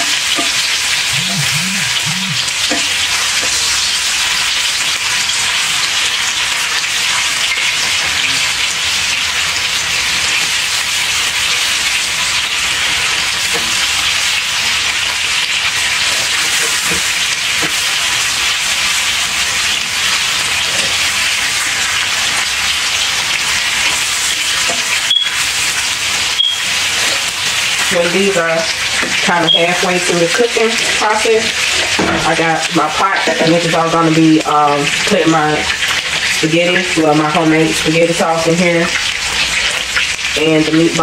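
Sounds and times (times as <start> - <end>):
meatballs sizzling in a skillet: 0.0 - 41.0.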